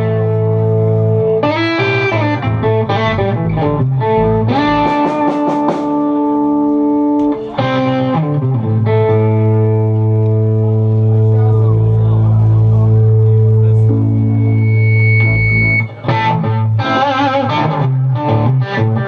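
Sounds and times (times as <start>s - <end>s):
bass guitar: 0.0s - 19.0s
distorted electric guitar: 0.0s - 19.0s.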